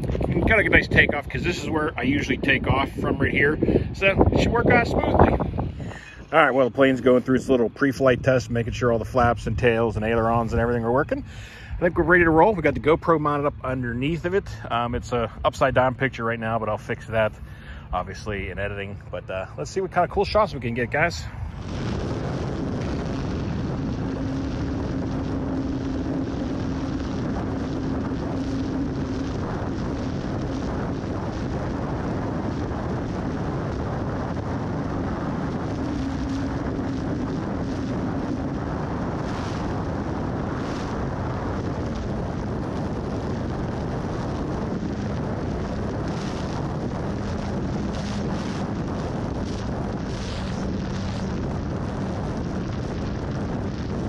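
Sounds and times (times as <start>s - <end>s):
electric motor and propeller hum: 0.0s - 54.0s
wind rushing over microphone: 0.0s - 54.0s.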